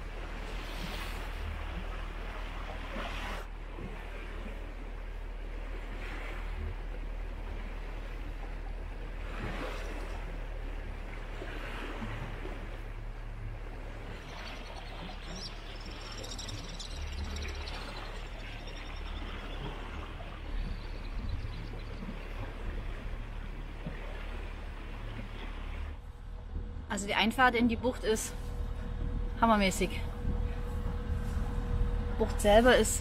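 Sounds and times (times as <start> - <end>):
steady low hum: 0.0 - 33.0
water rushing along hull: 0.0 - 33.0.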